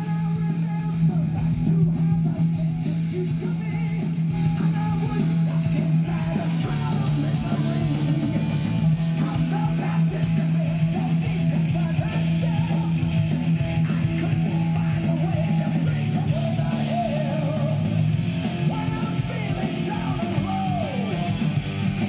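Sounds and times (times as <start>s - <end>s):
guitar rock music from speakers: 0.0s - 22.0s.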